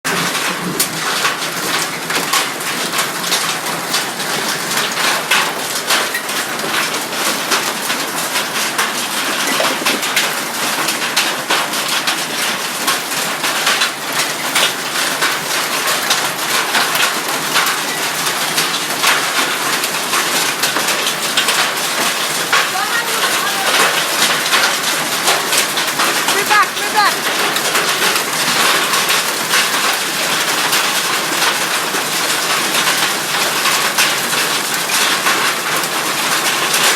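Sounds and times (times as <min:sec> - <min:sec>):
hailstones clattering: 0:00.1 - 0:36.9.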